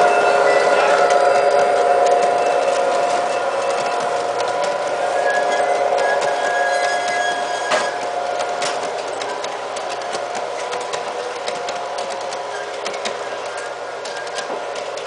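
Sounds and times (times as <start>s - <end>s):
model train humming: 0.0s - 15.0s
wheel clicks over rail: 0.8s - 15.0s.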